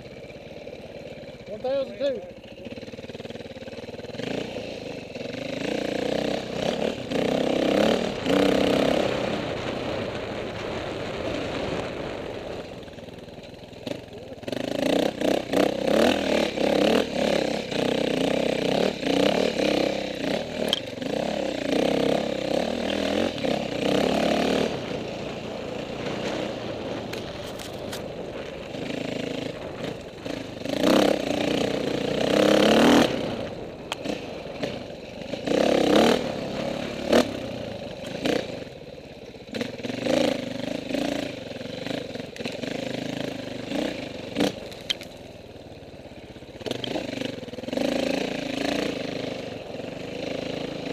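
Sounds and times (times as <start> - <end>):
dirt bike engine revving: 0.0 - 13.0, 13.7 - 50.9.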